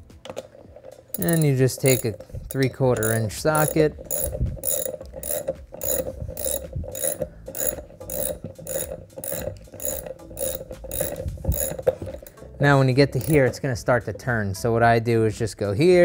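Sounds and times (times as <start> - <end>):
ratchet wrench clicking: 0.3 - 13.6.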